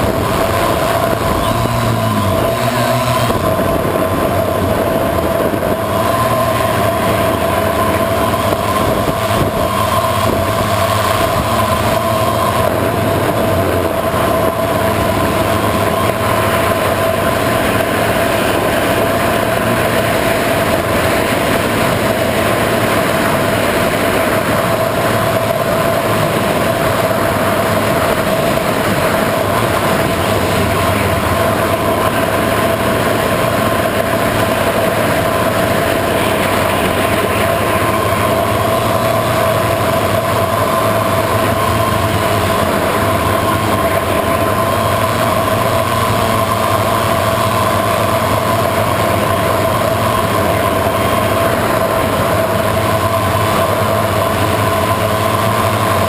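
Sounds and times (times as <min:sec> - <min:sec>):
drone motors whining: 0:00.0 - 0:56.0
rushing noise: 0:00.0 - 0:56.0.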